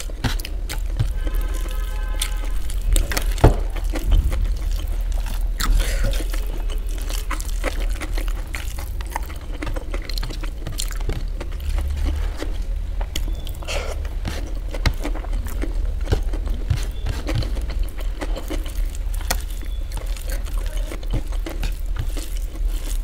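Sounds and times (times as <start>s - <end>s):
fingers squishing wet food: 0.0s - 23.0s
low steady hum: 0.0s - 23.0s
mouth-close chewing: 0.0s - 23.0s.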